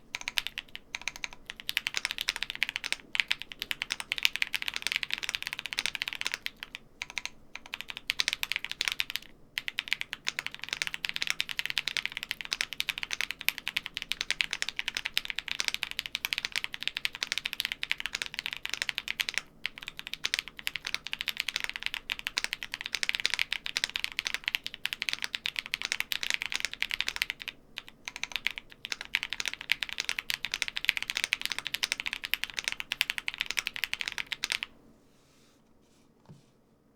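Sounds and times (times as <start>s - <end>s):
mechanical keyboard typing: 0.1s - 34.7s.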